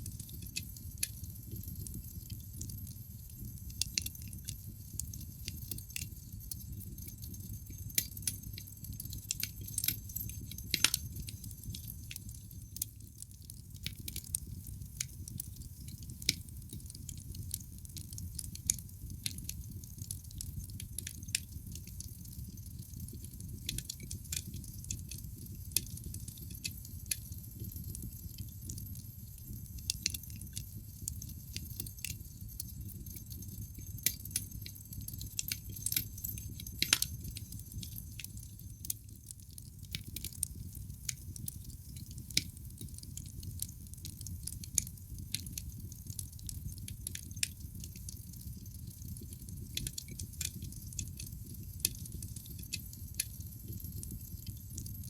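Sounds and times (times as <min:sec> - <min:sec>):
low rumble of flames: 0:00.0 - 0:54.9
logs crackling and popping: 0:00.2 - 0:54.9.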